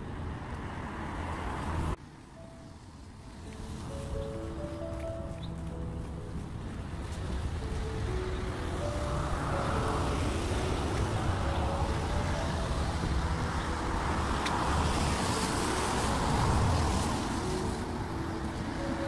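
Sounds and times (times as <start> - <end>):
cars passing on street: 0.0 - 19.0.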